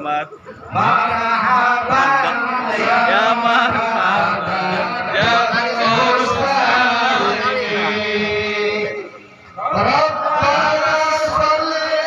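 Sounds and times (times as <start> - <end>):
men chanting together: 0.7 - 12.0.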